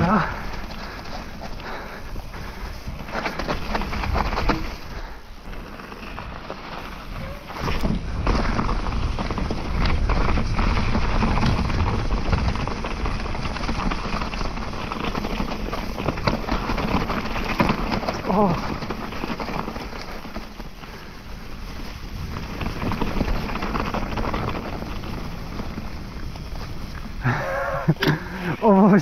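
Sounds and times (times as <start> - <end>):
bike frame rattling: 0.0 - 29.0
bike tyres crunching on dirt: 0.0 - 29.0.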